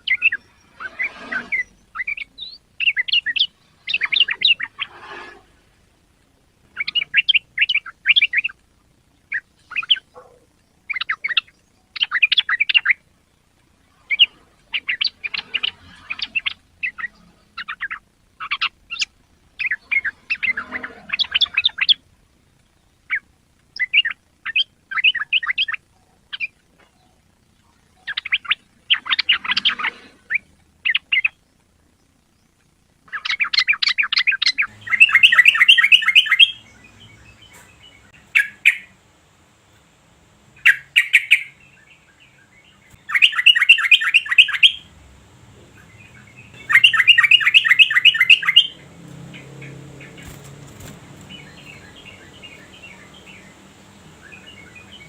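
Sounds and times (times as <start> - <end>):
bird singing chattering notes: 0.0 - 5.0, 6.6 - 39.0, 40.6 - 44.9, 45.5 - 55.0.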